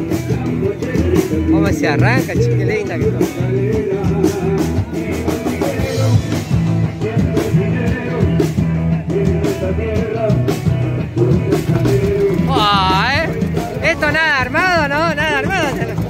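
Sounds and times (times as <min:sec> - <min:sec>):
rock music with drums and guitar: 0:00.0 - 0:16.0.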